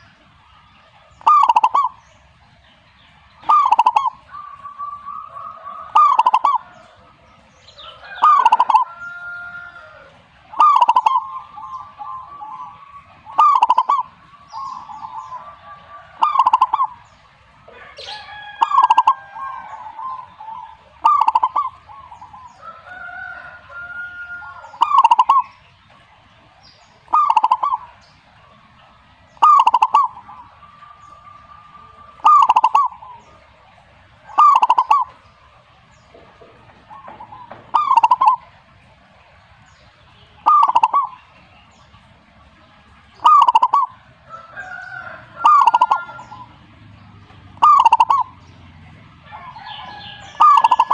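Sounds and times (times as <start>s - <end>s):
dove cooing: 0.0s - 2.2s, 3.1s - 39.7s, 40.3s - 50.9s
softer bird calls: 0.0s - 46.6s, 47.6s - 50.9s.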